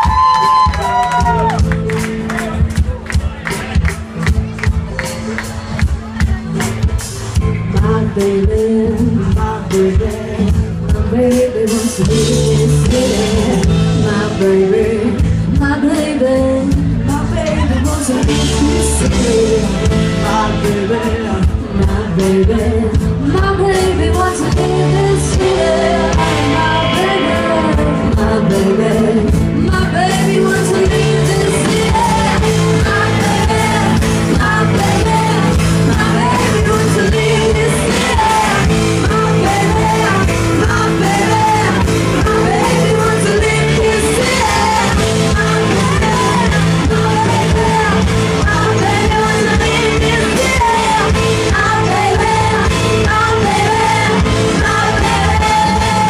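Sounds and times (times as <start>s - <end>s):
rock band playing: 0.0s - 56.0s
woman singing into a microphone: 7.4s - 56.0s.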